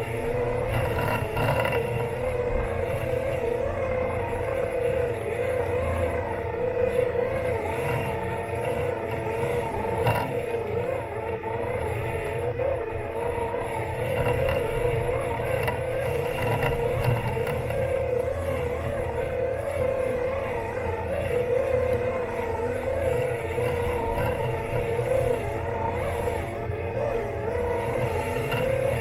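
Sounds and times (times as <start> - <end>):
electric motor whine: 0.0 - 29.0.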